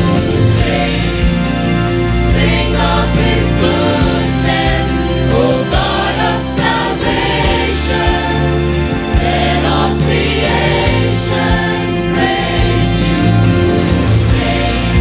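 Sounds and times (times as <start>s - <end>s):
choir singing: 0.0s - 15.0s
instrumental accompaniment: 0.0s - 15.0s.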